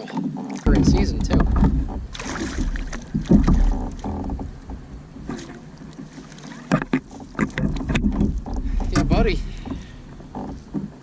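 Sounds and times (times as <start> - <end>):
handling knocks in kayak: 0.1 - 11.0
wind rumbling on microphone: 0.6 - 11.0.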